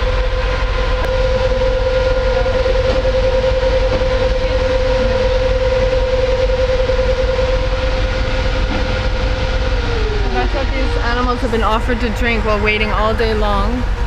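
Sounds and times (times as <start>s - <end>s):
machinery whine and rumble: 0.0s - 14.0s.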